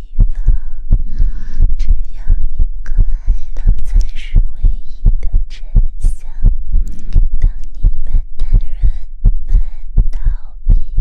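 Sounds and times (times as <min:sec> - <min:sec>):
constant low hum: 0:00.0 - 0:11.0
soft muffled low thumps: 0:00.0 - 0:11.0.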